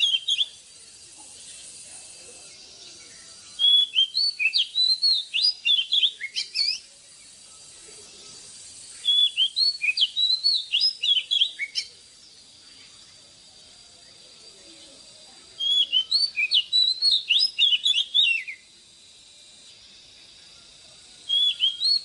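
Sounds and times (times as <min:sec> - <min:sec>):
bird singing whistled notes: 0:00.0 - 0:01.8, 0:02.4 - 0:13.2, 0:14.0 - 0:18.8, 0:19.6 - 0:22.0.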